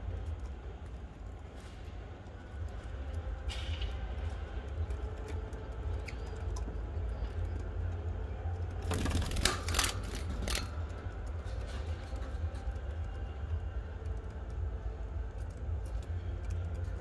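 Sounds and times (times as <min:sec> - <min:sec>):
sharp clicks and scratches: 0:00.0 - 0:17.0
steady low rumble: 0:00.0 - 0:17.0.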